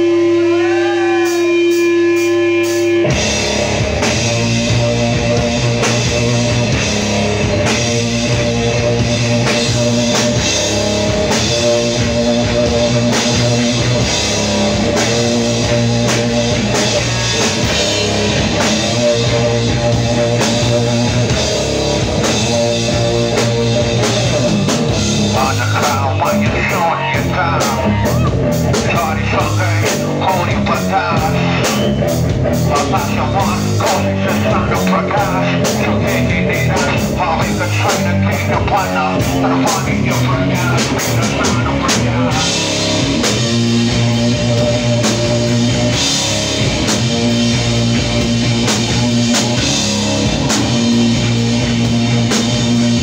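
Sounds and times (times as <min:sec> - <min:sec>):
bass guitar: 0:00.0 - 0:53.0
drum kit: 0:00.0 - 0:53.0
electric guitars: 0:00.0 - 0:53.0.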